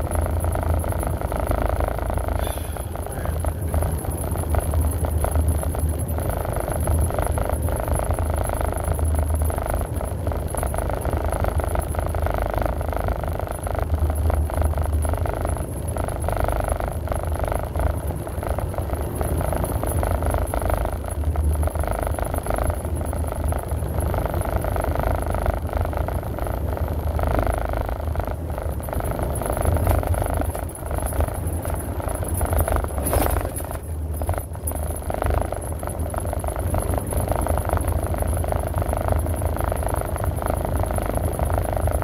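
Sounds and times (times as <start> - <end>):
low hum: 0.0 - 42.0
vehicle road and engine noise: 0.0 - 42.0.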